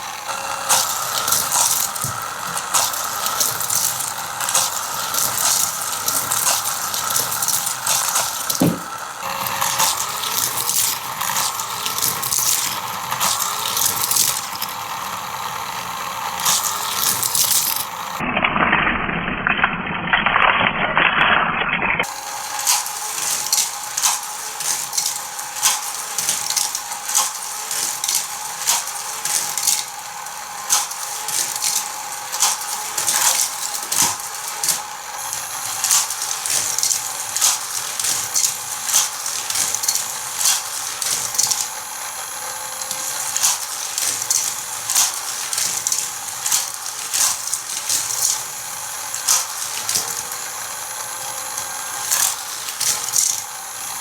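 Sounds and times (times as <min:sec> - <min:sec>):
motorized booster whirring: 0:00.0 - 0:18.2, 0:22.0 - 0:54.0
toy cars clattering on plastic track: 0:00.0 - 0:18.2, 0:22.0 - 0:54.0.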